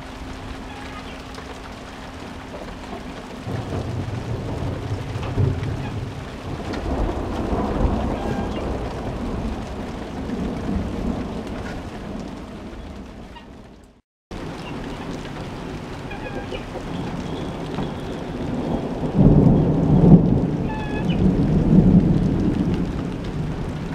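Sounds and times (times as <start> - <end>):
rain hissing: 0.0 - 23.9
thunder rumbling: 0.0 - 23.9.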